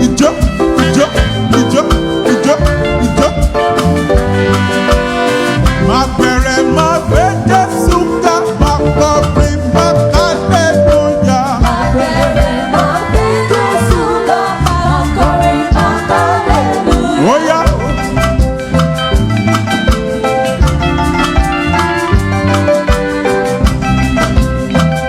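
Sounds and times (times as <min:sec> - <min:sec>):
live band playing dance groove: 0:00.0 - 0:25.0.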